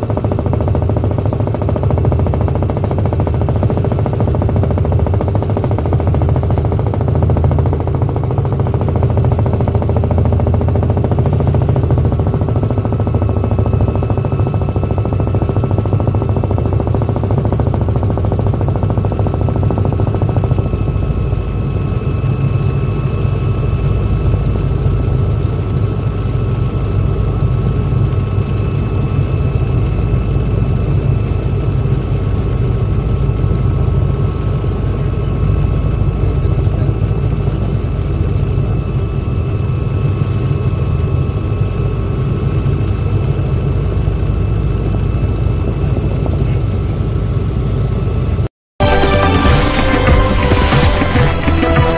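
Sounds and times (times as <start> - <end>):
constant high whine: 0.0 - 51.9
helicopter drone inside cabin: 0.0 - 51.9.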